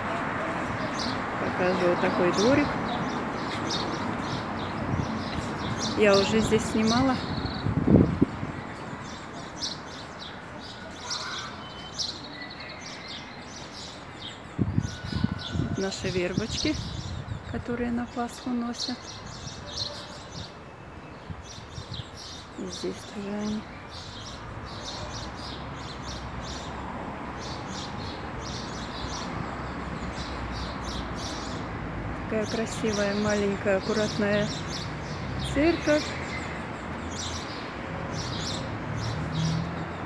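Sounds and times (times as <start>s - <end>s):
small birds chirping: 0.7s - 40.0s.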